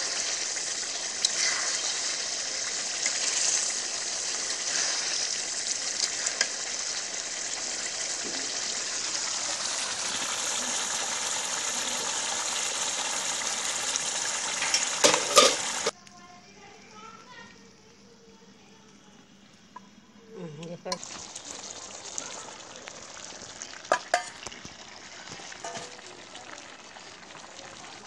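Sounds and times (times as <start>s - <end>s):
curry sizzling and bubbling: 0.0s - 16.0s, 18.9s - 28.0s.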